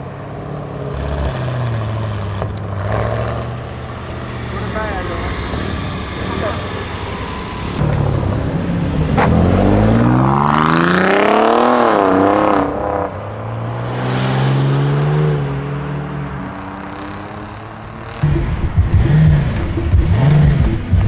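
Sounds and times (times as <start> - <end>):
sports car engine accelerating: 0.0 - 21.0.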